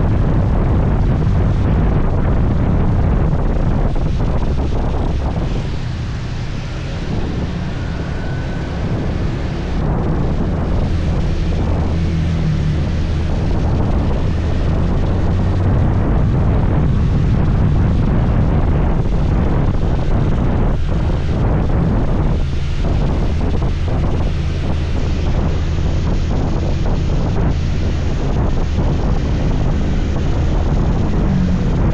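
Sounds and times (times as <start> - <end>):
engine and road drone: 0.0 - 31.9
wind buffeting microphone: 0.0 - 31.9.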